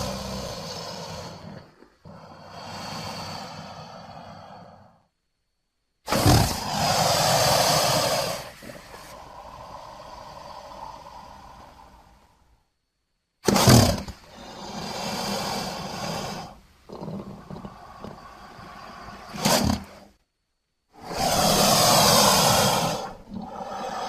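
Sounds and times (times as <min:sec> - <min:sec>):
crocodile growls and roars: 0:00.0 - 0:04.8, 0:06.1 - 0:12.2, 0:13.5 - 0:20.2, 0:21.0 - 0:24.0.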